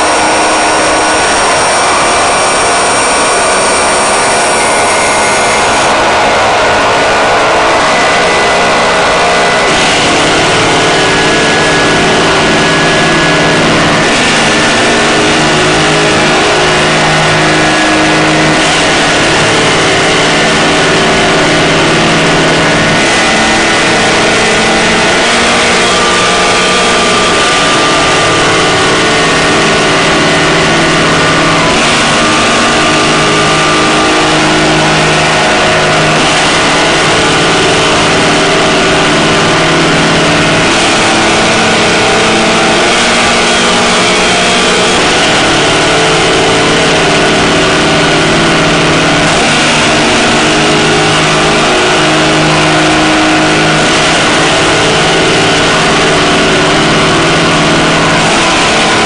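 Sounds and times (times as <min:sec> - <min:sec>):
distorted hiss: 0:00.0 - 0:59.0
droning tones: 0:00.0 - 0:59.0.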